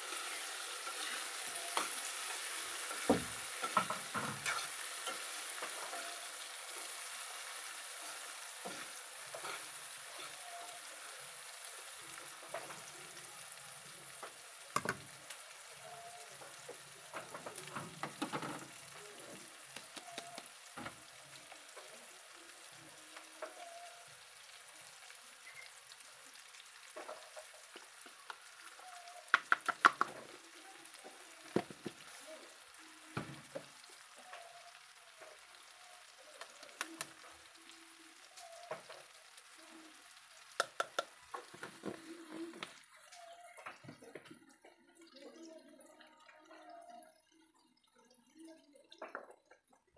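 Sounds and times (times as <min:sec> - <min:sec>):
vegetables sizzling in oil: 0:00.0 - 0:47.2.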